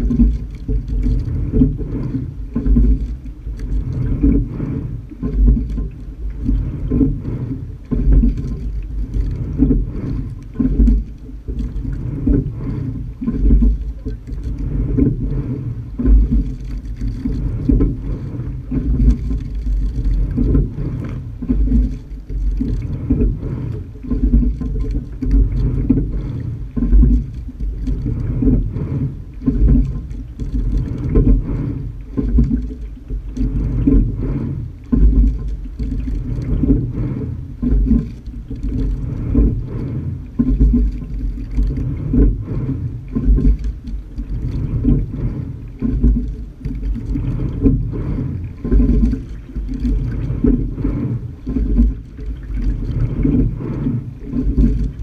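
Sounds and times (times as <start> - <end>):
water rushing along hull: 0.0 - 55.0.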